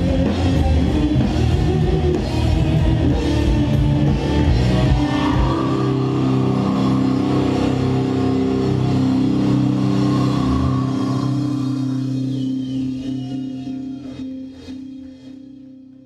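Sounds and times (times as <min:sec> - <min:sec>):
distorted electric guitars and bass: 0:00.0 - 0:16.0.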